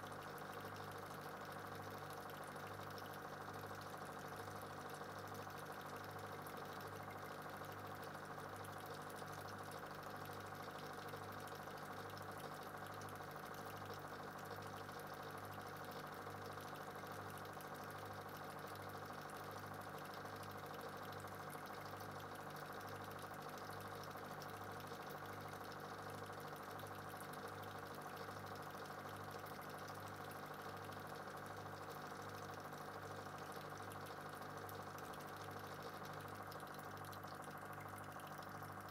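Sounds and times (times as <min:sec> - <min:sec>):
small machine humming: 0:00.0 - 0:38.9.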